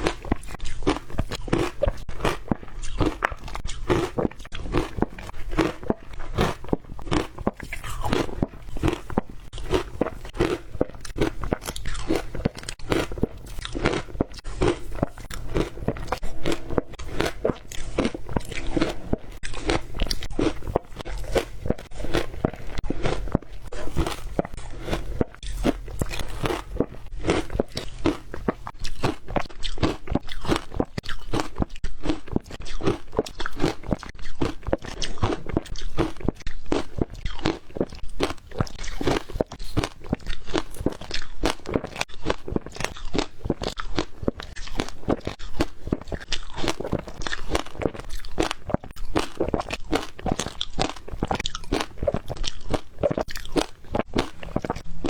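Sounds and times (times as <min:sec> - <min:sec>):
ice cubes crunching in teeth: 0:00.0 - 0:54.9.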